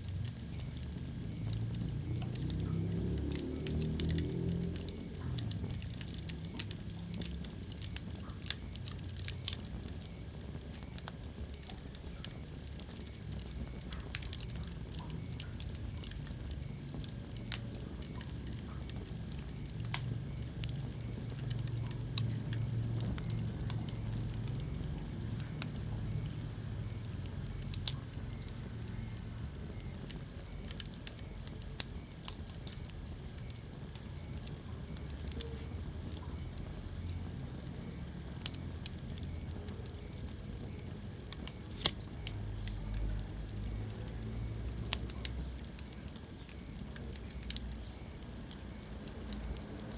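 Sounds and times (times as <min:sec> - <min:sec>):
fire crackling and popping: 0:00.0 - 0:49.9
fire rumbling and hissing: 0:00.0 - 0:49.9.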